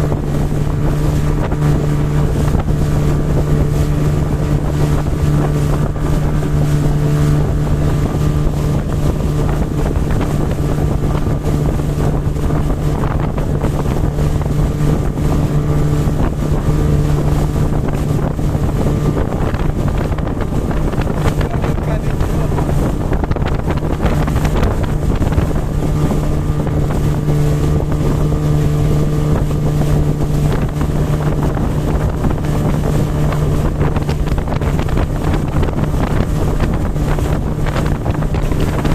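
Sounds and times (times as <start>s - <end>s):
motorboat engine droning: 0.0s - 38.9s
wind on microphone: 0.0s - 38.9s.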